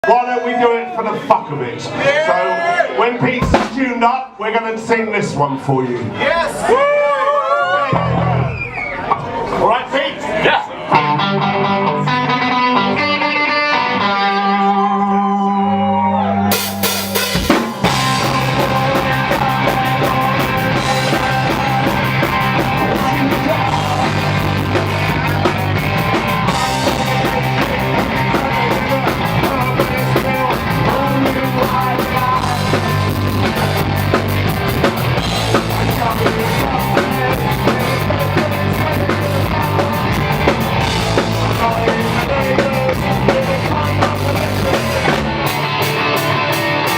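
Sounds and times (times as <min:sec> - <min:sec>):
punk rock band playing: 0:03.1 - 0:05.4, 0:07.9 - 0:08.6, 0:10.8 - 0:46.9.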